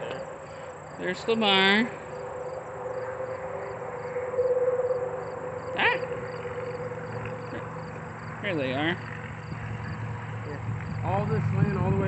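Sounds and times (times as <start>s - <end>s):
crickets chirping: 0.0s - 12.0s
steady hum: 0.0s - 12.0s.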